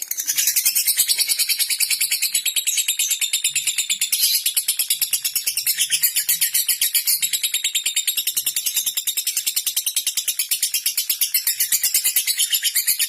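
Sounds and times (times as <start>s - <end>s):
lovebird chattering: 0.0s - 13.0s.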